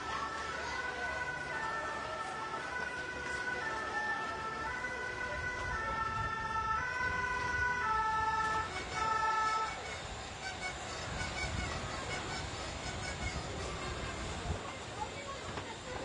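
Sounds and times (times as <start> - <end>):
two-tone emergency siren: 0.0 - 13.5.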